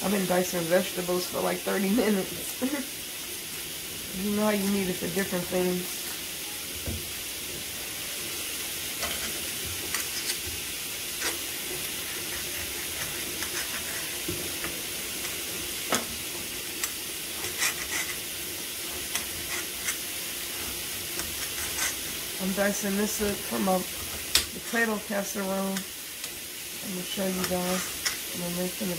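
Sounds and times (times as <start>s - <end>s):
food sizzling in a pan: 0.0s - 28.9s.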